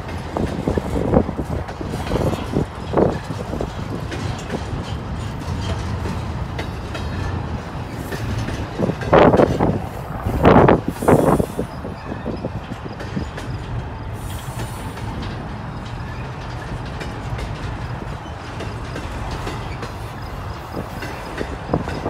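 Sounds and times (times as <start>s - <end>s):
steel wheels rumbling on rail: 0.0s - 22.0s
train wheels clattering: 0.0s - 22.0s.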